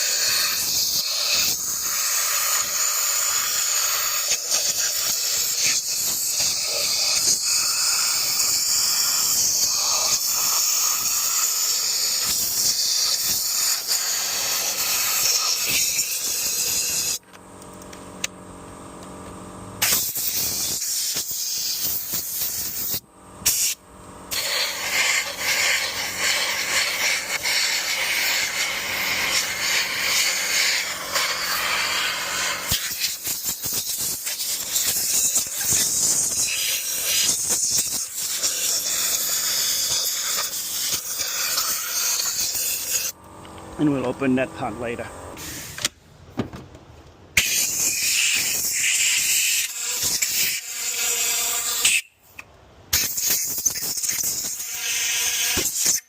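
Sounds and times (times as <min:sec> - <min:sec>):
air blow gun hissing: 0:00.0 - 0:17.2, 0:19.8 - 0:43.2, 0:43.8 - 0:45.9, 0:47.4 - 0:56.0.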